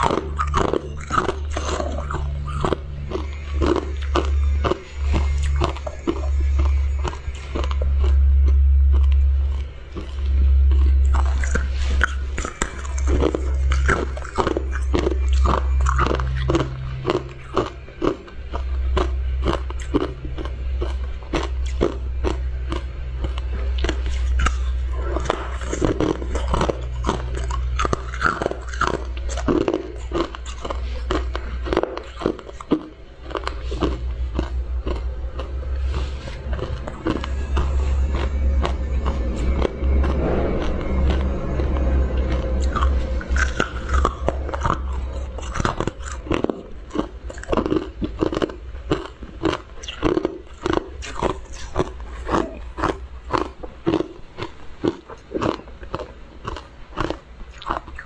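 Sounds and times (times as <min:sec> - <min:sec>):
crunching brittle food: 0:00.0 - 0:58.0
steady low hum: 0:00.0 - 0:58.0.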